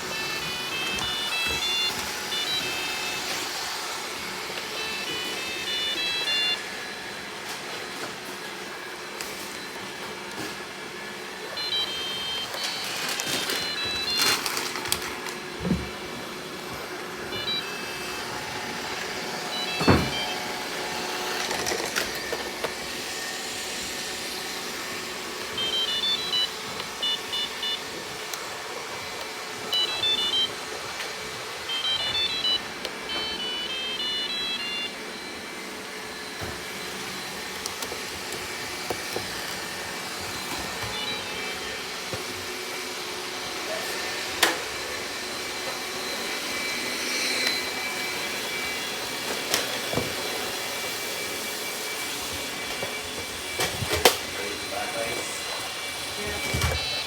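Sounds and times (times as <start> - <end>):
robot vacuum cleaner running: 0.0 - 57.0.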